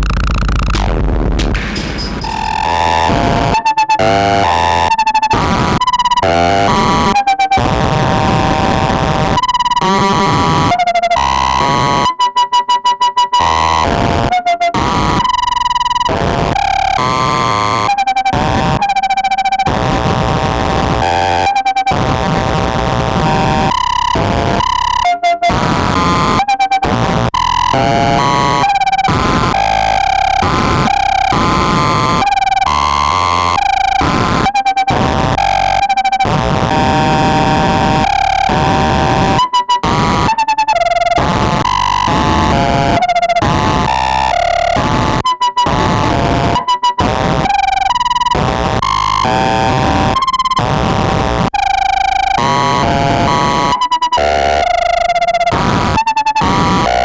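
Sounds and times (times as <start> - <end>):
harsh synthesizer noise: 0.0 - 12.1, 13.4 - 57.0.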